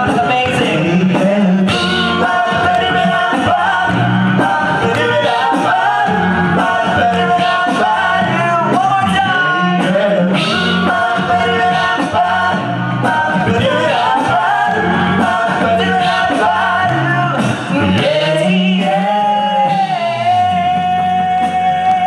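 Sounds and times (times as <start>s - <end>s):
low sung bass line: 0.0s - 22.0s
male a cappella group singing: 0.0s - 22.0s.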